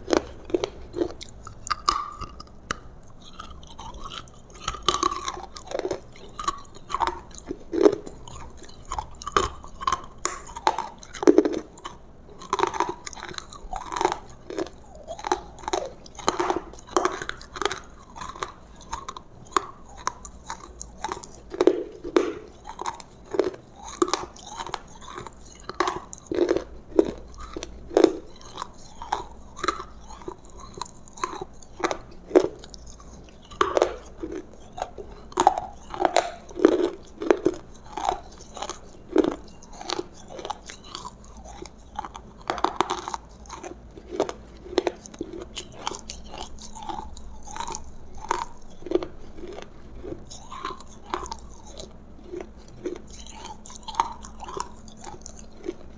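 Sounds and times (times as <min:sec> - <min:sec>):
chewing and crunching food: 0:00.0 - 0:55.9.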